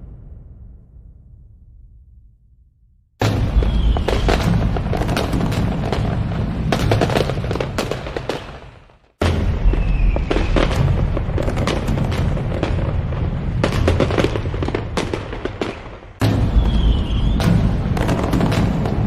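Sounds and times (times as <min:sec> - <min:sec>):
fireworks booms and crackling: 0:03.2 - 0:19.0.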